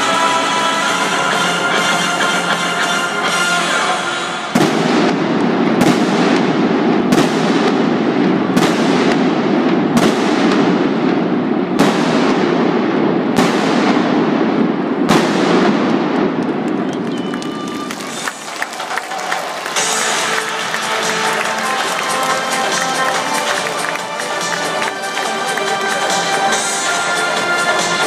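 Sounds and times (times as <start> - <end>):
steady background din: 0.0 - 28.0
fireworks bursting with echo: 3.3 - 28.0.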